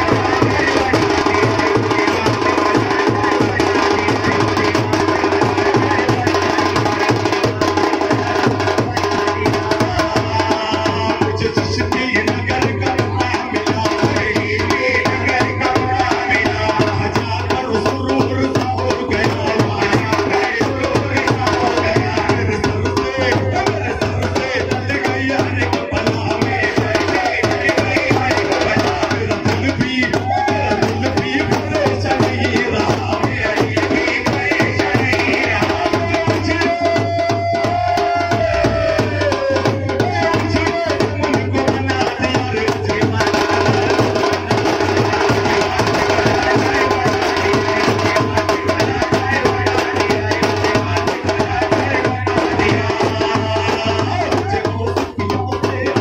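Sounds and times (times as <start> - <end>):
drum ensemble playing: 0.0 - 56.0
voice chanting through microphone: 0.0 - 56.0.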